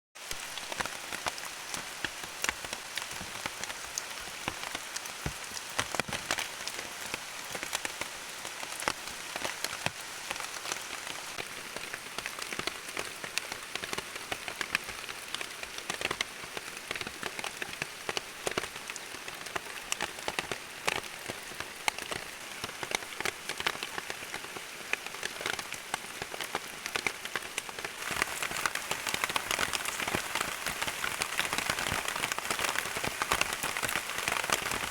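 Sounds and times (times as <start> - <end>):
raindrops hitting surfaces: 0.2 - 34.9
steady rain: 0.2 - 34.9.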